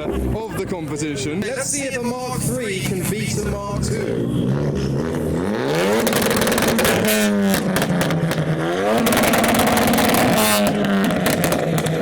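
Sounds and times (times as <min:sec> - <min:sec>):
car engine revving: 0:01.3 - 0:12.0.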